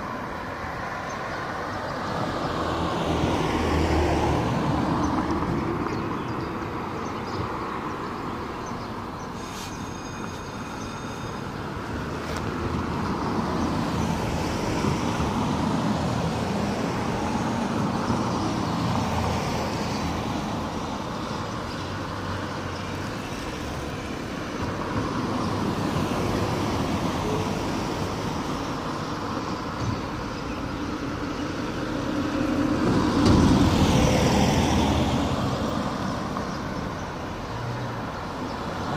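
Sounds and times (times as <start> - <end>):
cars passing: 0.0 - 38.9.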